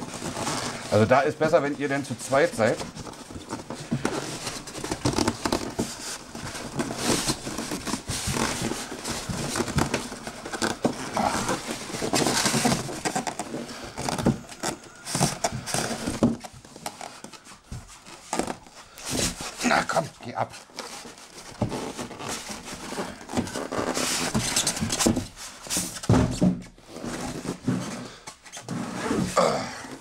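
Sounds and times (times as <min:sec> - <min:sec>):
cardboard scraping against foam: 0:00.0 - 0:29.4.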